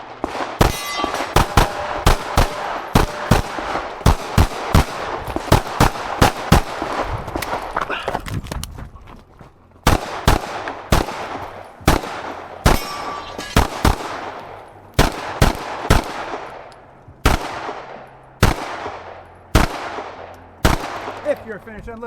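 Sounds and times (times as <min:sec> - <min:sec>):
pistol shots: 0:00.0 - 0:07.7, 0:09.8 - 0:21.6.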